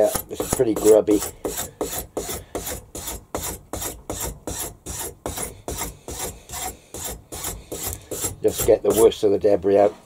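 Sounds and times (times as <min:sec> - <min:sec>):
wire brush rasping on file: 0:00.0 - 0:09.4.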